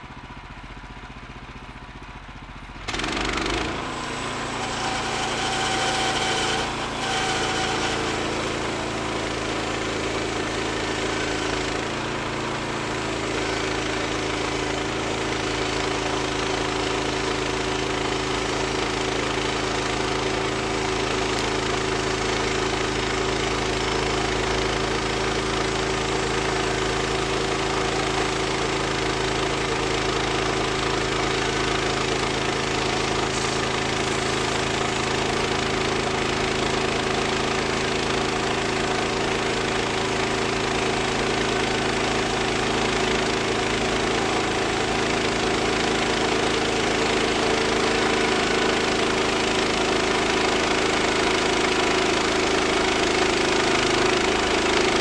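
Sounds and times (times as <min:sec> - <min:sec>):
bandsaw mill engine running: 0:00.0 - 0:55.0.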